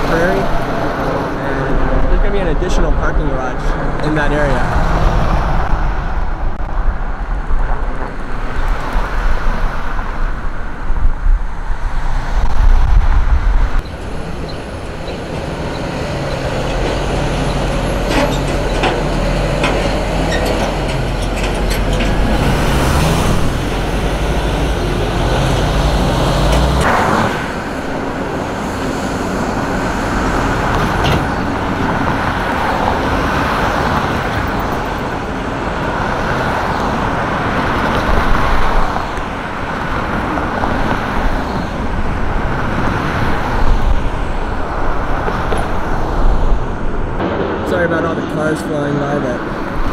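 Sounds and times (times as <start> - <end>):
road traffic noise: 0.0 - 49.9.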